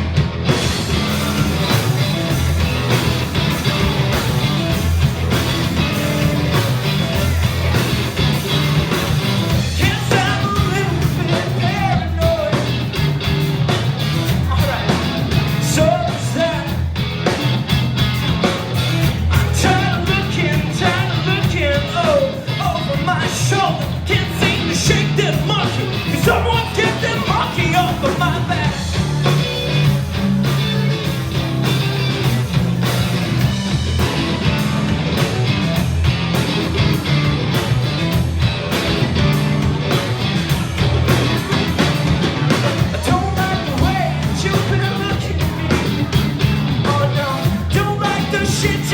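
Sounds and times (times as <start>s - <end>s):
live band playing fast rock: 0.0s - 48.9s.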